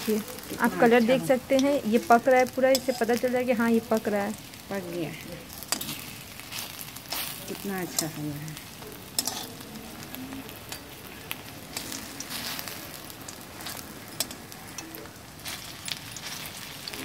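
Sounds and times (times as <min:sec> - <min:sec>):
oil popping and crackling: 0:00.0 - 0:17.0
rolls frying in oil: 0:00.0 - 0:17.0.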